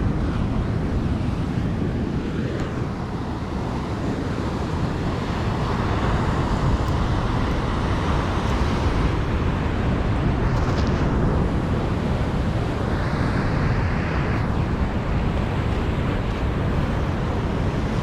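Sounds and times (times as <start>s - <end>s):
ocean surf: 0.0s - 18.0s
wind buffeting microphone: 0.0s - 18.0s.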